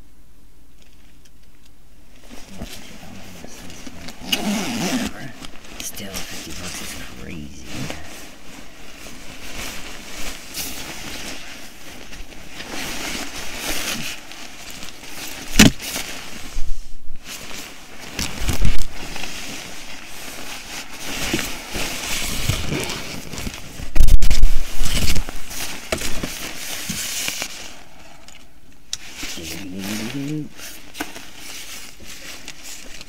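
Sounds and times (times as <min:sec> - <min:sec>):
rustling and crinkling items: 0:00.7 - 0:33.0.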